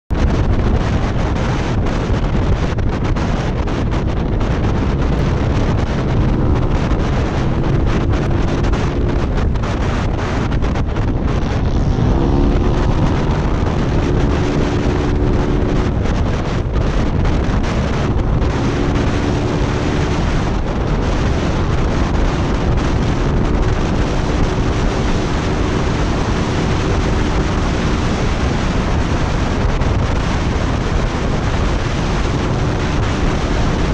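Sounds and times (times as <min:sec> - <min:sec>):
wind rushing over microphone: 0:00.1 - 0:33.9.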